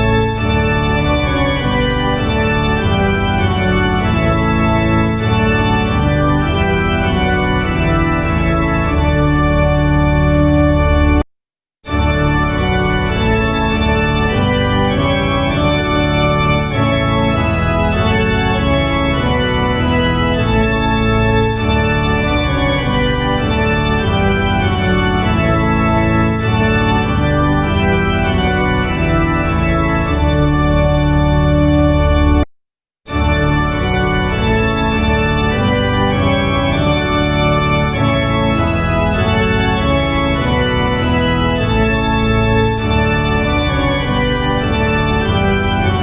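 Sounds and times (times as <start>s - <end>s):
organ playing a hymn: 0.0s - 11.2s, 11.8s - 32.5s, 33.1s - 46.0s.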